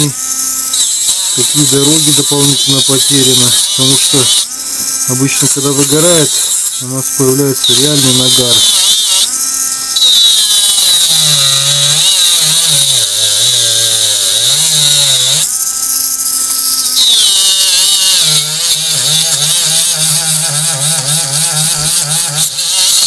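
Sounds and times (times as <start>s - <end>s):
rotary tool motor whine: 0.0s - 23.0s.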